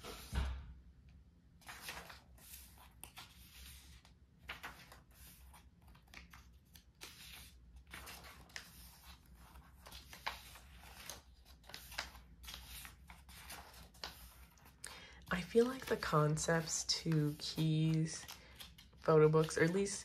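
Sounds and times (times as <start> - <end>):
paper pages turning: 1.6 - 20.0.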